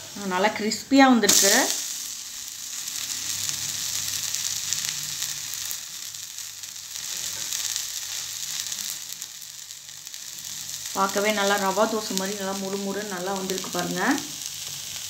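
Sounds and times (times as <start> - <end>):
dosa sizzling on a griddle: 0.0 - 15.0.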